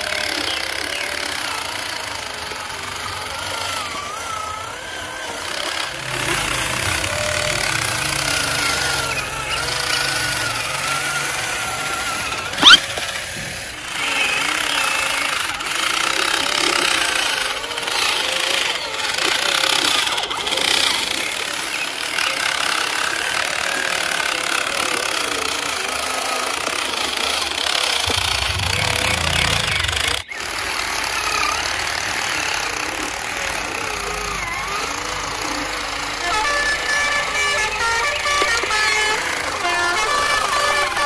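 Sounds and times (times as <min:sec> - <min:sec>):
toy truck motor whining and rattling: 0:00.0 - 0:41.0.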